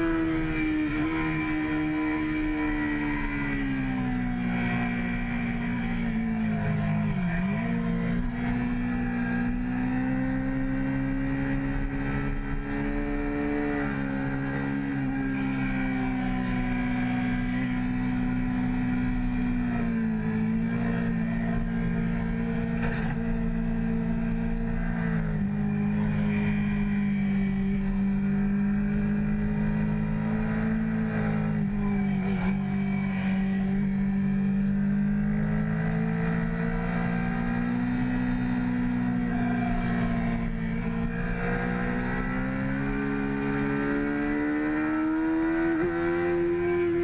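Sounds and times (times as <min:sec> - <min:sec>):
motorcycle engine at high revs: 0:00.0 - 0:47.0.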